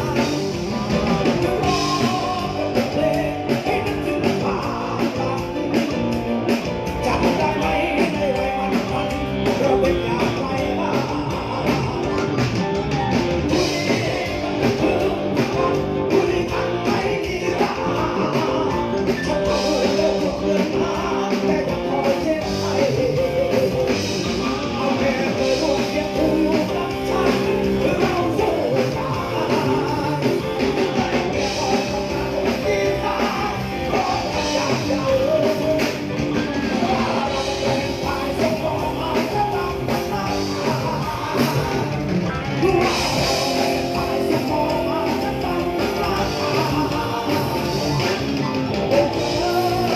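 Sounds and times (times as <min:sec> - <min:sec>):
electric guitar: 0:00.0 - 0:49.9
live rock band playing: 0:00.0 - 0:49.9
person singing: 0:00.0 - 0:49.9.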